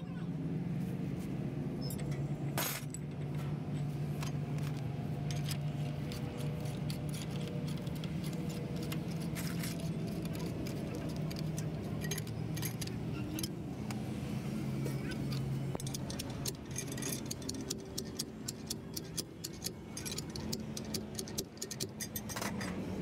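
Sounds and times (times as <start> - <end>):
metal tools clinking on wheel hub: 1.8 - 13.6, 14.8 - 22.8.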